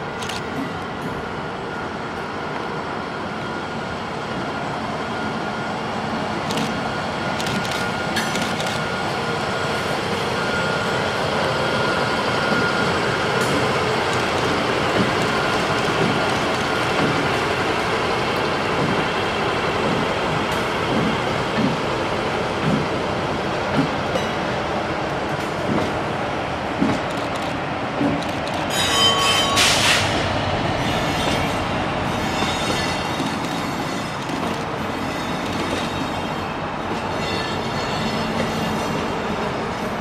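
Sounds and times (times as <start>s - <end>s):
diesel locomotive engine running: 0.0s - 40.0s.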